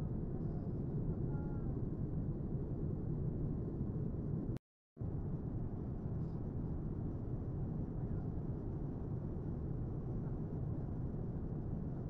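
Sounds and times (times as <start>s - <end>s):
airplane cabin engine noise: 0.0s - 12.0s.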